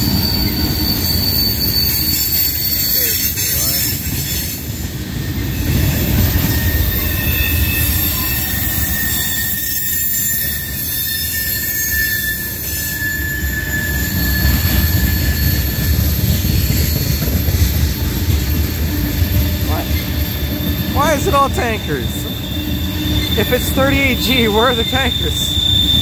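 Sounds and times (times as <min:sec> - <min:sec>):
high-pitched wheel squeal: 0:00.0 - 0:26.0
train wheels rumbling on rail: 0:00.0 - 0:26.0.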